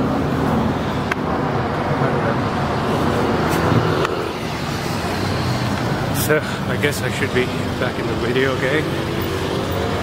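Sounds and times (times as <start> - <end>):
road traffic: 0.0 - 10.0
vehicle passing close: 0.0 - 10.0.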